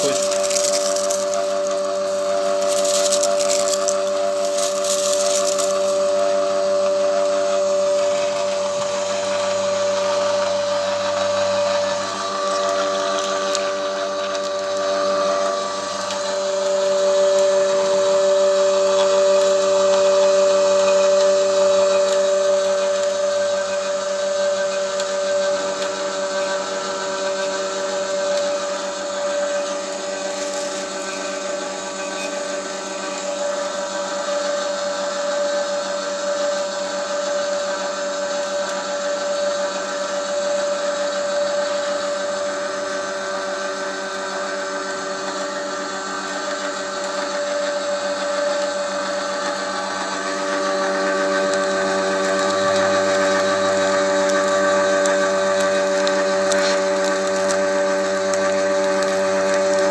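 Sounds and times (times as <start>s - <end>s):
oil press motor whine: 0.0s - 59.9s.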